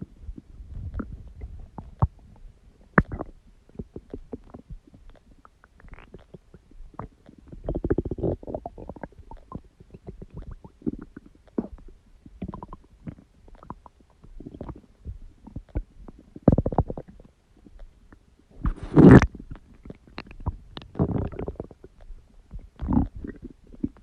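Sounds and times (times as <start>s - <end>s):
stomach growling and gurgling: 0.0s - 24.0s.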